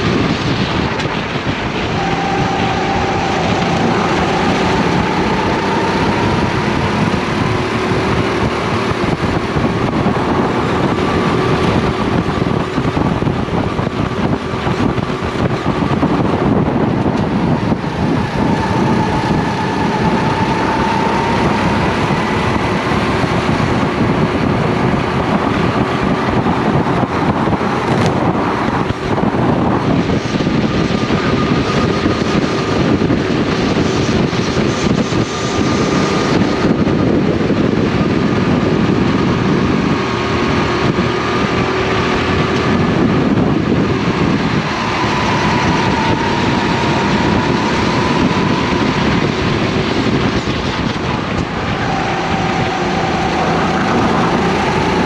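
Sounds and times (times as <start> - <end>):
kart engine running hard: 0.0 - 55.0
wind: 0.0 - 55.0.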